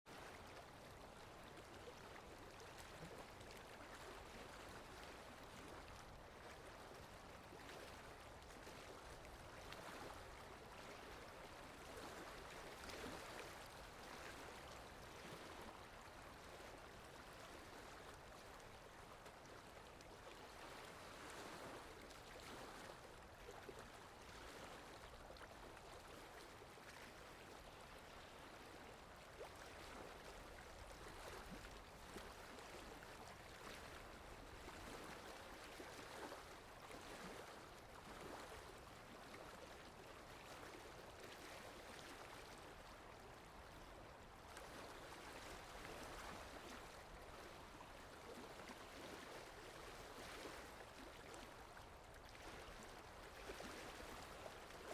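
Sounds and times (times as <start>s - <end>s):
wind: 0.0s - 54.9s
faint water lapping: 0.1s - 54.9s.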